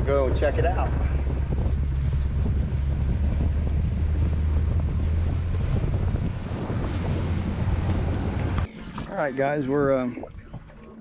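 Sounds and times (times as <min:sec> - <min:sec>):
wind buffeting microphone: 0:00.0 - 0:10.8
boat motor droning: 0:00.0 - 0:11.0
water rushing past hull: 0:00.0 - 0:11.0.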